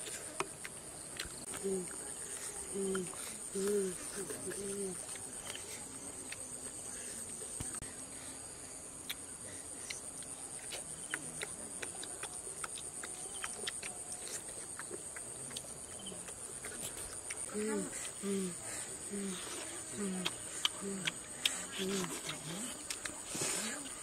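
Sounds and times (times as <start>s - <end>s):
people chewing: 0.0s - 7.8s, 9.0s - 24.0s
insects droning: 0.0s - 24.0s.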